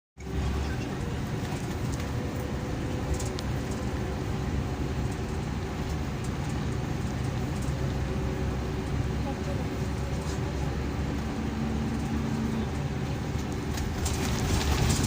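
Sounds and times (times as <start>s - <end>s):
coach engine drone: 0.2s - 15.0s.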